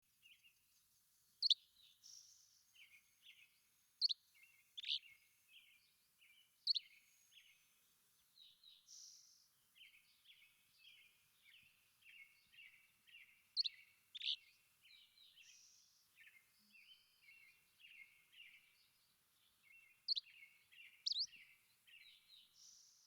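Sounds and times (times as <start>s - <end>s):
birds chirping: 1.4s - 23.0s.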